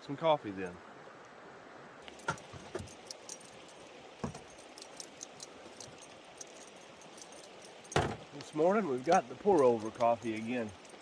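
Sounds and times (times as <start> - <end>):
creek water rushing: 0.0 - 11.0
metallic clinks: 2.1 - 11.0.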